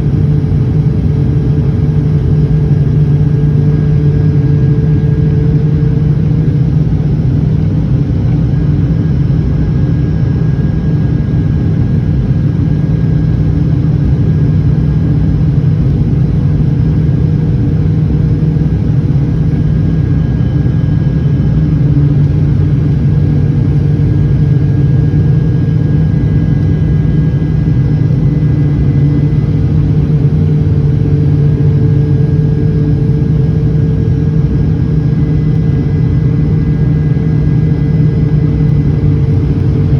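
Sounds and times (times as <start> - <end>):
airliner engine drone: 0.0 - 39.9.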